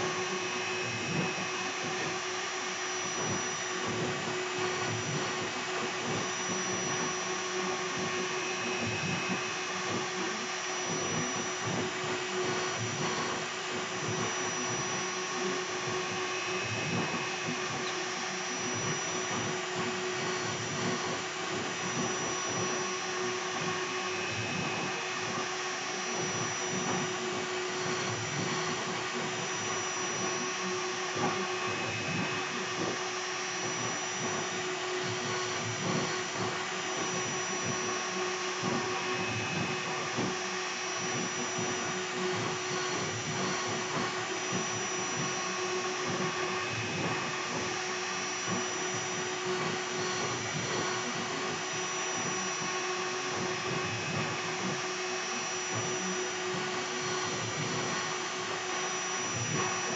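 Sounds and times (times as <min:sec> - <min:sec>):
router spindle whining: 0:00.0 - 0:59.9.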